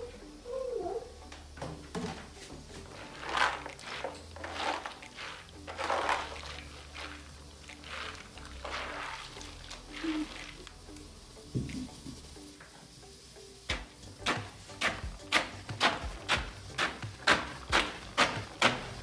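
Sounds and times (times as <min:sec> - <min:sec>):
hands kneading wet berries: 0:02.3 - 0:12.5, 0:13.7 - 0:19.0.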